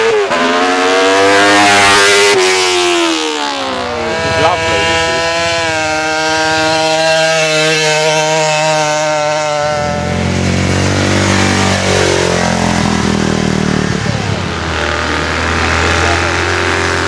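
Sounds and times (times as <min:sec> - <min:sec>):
motorcycle running at speed: 0:00.0 - 0:17.0
rough vehicle engine: 0:00.0 - 0:17.0.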